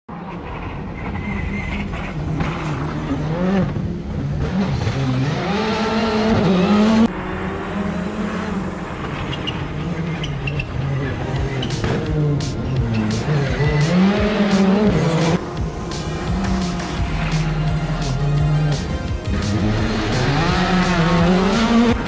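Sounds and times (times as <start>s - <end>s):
rally car engine revving: 0.1s - 22.0s
steady engine sound: 0.4s - 22.0s.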